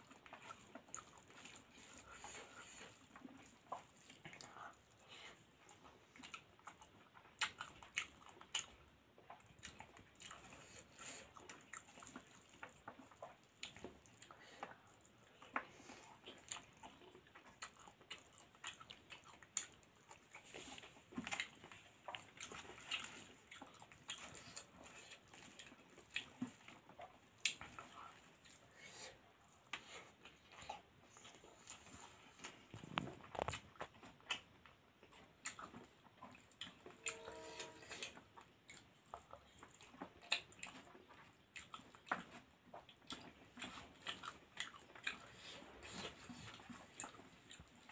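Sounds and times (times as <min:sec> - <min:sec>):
chewing and lip smacks: 0:00.0 - 0:37.2, 0:37.9 - 0:47.9.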